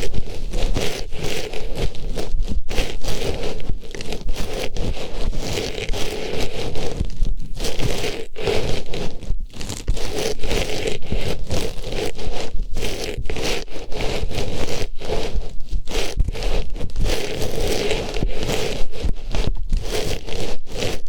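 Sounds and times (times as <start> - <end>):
artificial flower rustling on microphone: 0.0 - 21.0.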